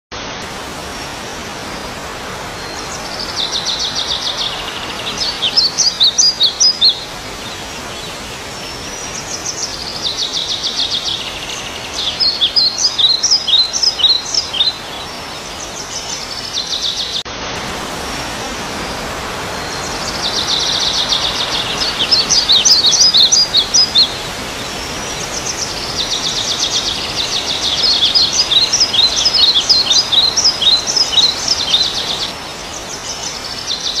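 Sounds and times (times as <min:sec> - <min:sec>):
steady hiss: 0:00.2 - 0:34.0
bird singing trills and chirps: 0:02.6 - 0:17.3, 0:19.6 - 0:34.0.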